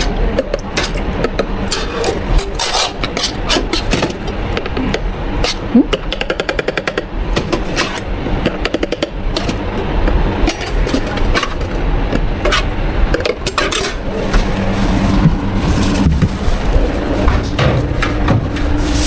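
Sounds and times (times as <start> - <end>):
low machine rumble: 0.0 - 19.0.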